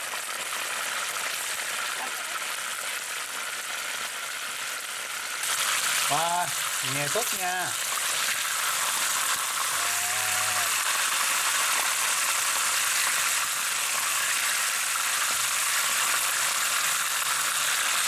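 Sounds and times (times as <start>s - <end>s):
chicken frying in hot oil: 0.0s - 18.0s.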